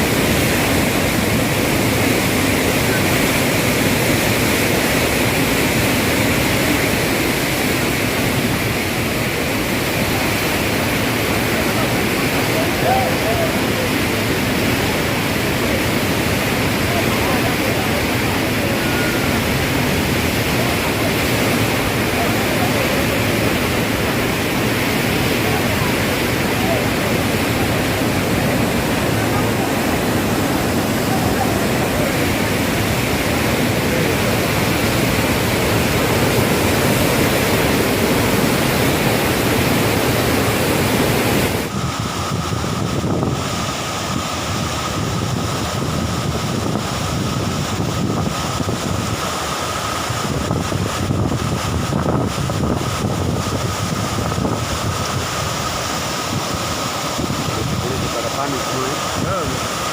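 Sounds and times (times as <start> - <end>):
loud rushing noise: 0.0 - 59.9.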